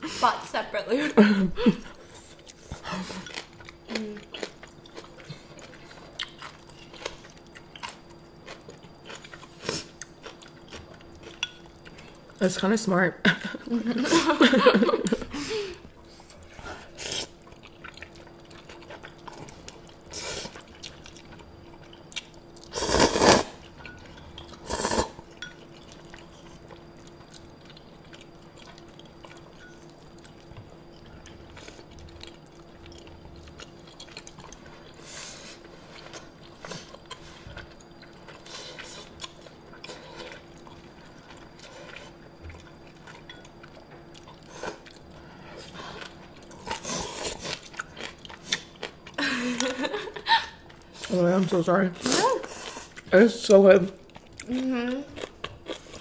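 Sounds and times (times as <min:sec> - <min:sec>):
faint hum: 0:00.0 - 0:56.0
slurping and chewing: 0:01.8 - 0:12.4, 0:15.0 - 0:49.8, 0:50.5 - 0:56.0.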